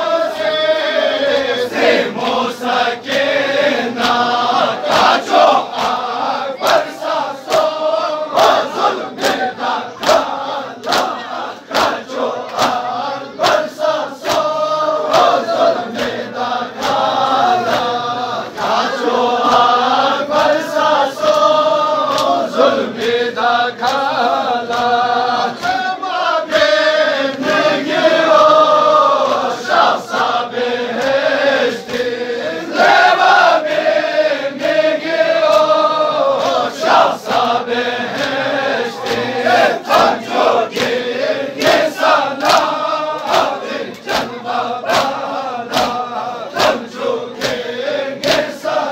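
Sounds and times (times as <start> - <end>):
crowd of men chanting: 0.0 - 48.9
hand slaps on chests: 3.0 - 18.0, 18.6 - 19.8, 20.4 - 23.2, 23.8 - 27.5, 29.2 - 32.1, 35.4 - 48.8.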